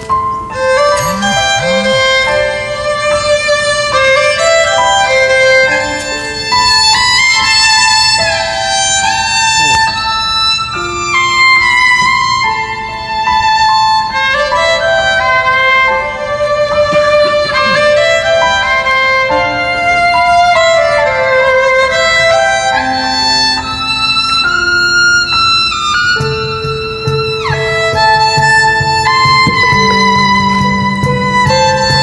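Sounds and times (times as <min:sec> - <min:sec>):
amplified violin melody: 0:00.0 - 0:32.0.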